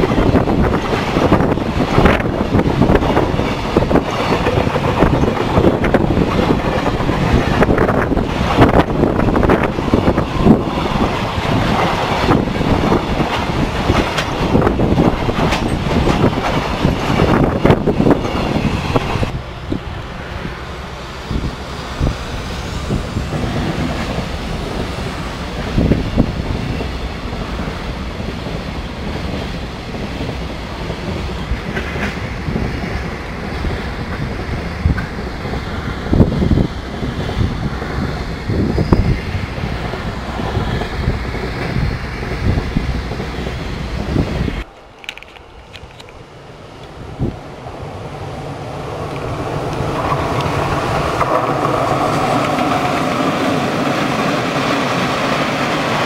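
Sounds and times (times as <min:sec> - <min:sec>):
train wheels clattering on rails: 0:00.0 - 0:19.8, 0:21.2 - 0:46.2, 0:48.5 - 0:56.0.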